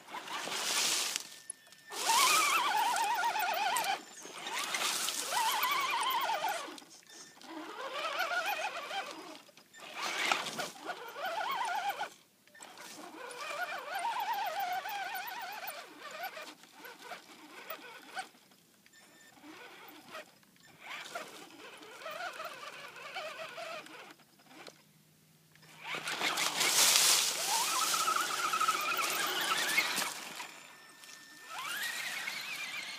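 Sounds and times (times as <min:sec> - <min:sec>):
toy truck motor whining: 0:00.0 - 0:24.8, 0:25.5 - 0:32.9.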